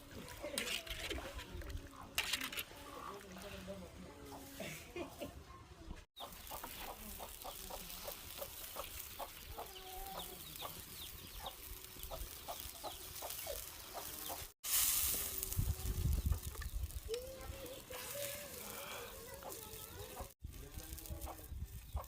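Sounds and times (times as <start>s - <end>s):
chickens clucking: 0.0s - 14.6s, 16.0s - 20.4s, 21.0s - 22.0s.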